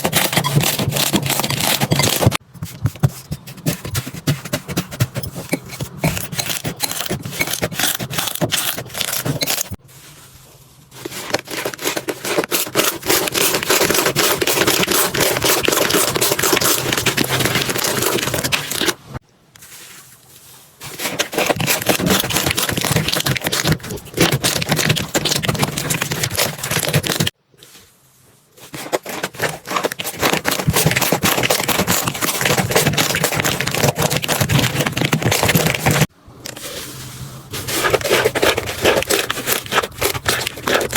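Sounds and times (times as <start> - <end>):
sticky scraping: 0.0 - 40.9.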